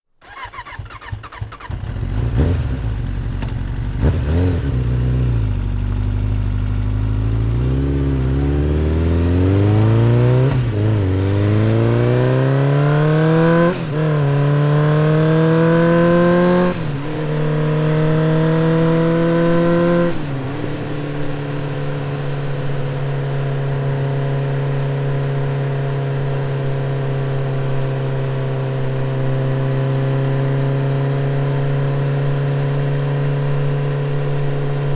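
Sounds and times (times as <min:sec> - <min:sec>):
motorcycle engine accelerating: 0:00.2 - 0:34.9.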